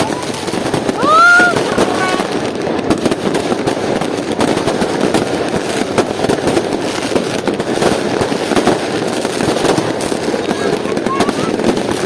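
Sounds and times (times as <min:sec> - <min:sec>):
fireworks and firecrackers crackling: 0:00.0 - 0:12.0.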